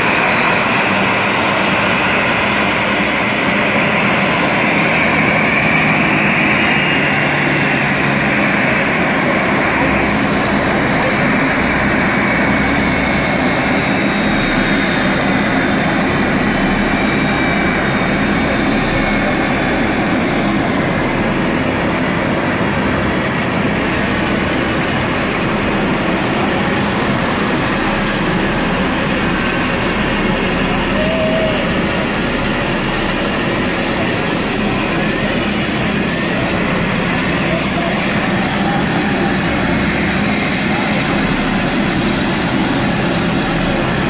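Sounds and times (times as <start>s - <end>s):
jet engines idling: 0.0s - 44.0s.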